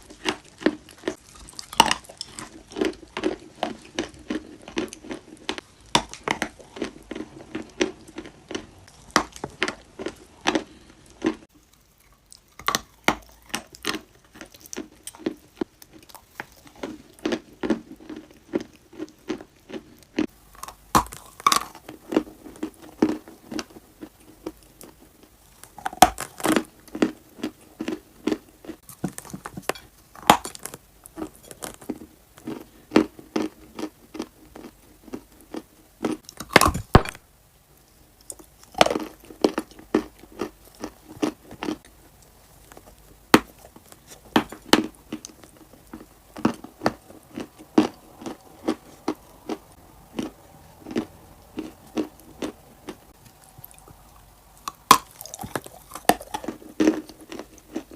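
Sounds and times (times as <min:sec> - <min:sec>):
crunchy clay chewing: 0:00.0 - 0:37.2, 0:37.8 - 0:57.9.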